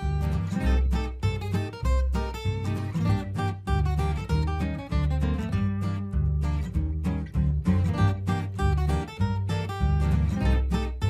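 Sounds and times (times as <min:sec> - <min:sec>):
acoustic guitar strumming: 0:00.0 - 0:11.0
low bass notes: 0:00.0 - 0:11.0.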